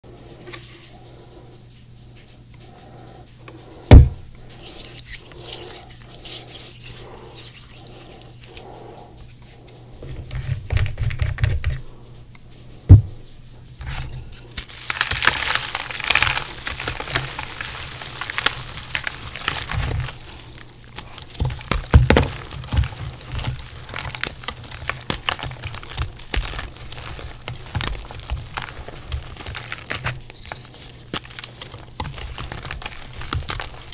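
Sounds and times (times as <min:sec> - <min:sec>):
wet chalk crumbling and crackling: 0:01.9 - 0:11.9, 0:12.8 - 0:33.9.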